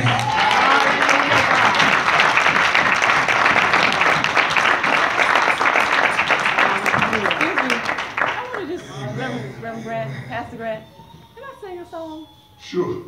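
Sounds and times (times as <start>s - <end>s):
crowd applauding: 0.0s - 10.5s.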